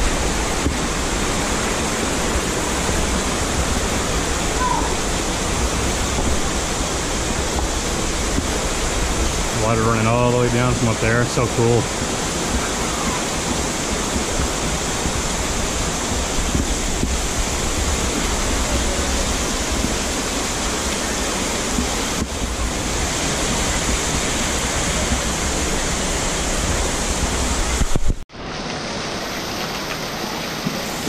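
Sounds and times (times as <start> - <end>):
waterfall rushing into pool: 0.0 - 31.0.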